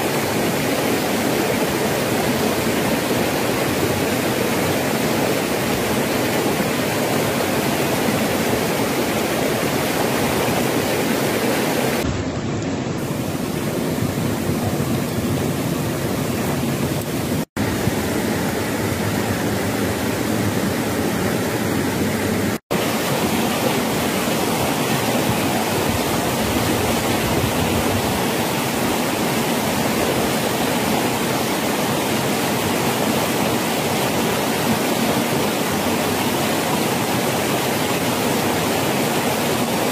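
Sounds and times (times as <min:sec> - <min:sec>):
rushing water hissing: 0:00.0 - 0:39.9.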